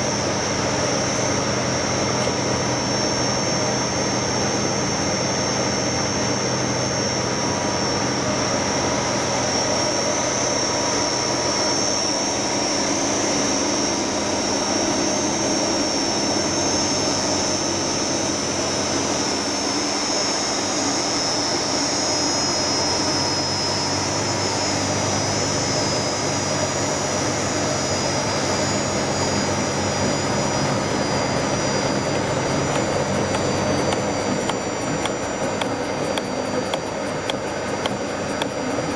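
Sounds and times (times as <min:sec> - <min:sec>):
machine whining: 0:00.0 - 0:38.9.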